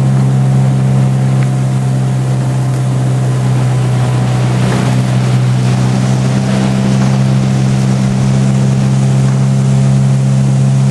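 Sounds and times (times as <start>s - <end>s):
outboard motor droning: 0.0s - 10.9s.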